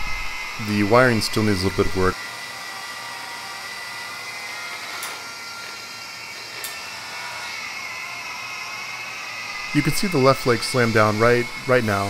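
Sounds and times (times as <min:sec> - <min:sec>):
drive motors whining: 0:00.0 - 0:12.0.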